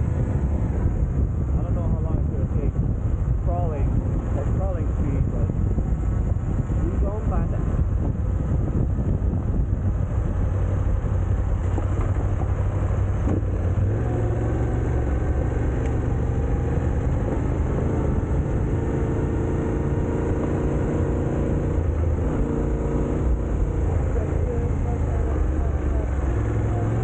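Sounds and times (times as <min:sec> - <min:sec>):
heavy low rumble: 0:00.0 - 0:27.0
vehicle engine running: 0:00.0 - 0:27.0.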